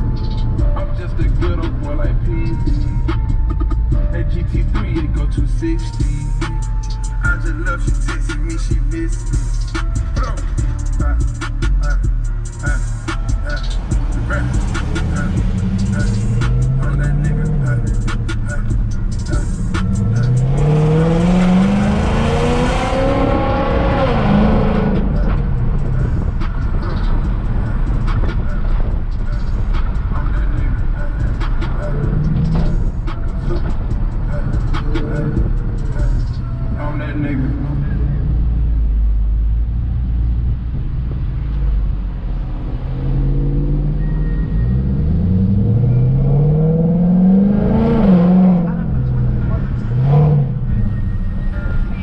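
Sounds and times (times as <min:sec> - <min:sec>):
car engine accelerating hard: 0:00.0 - 0:52.0.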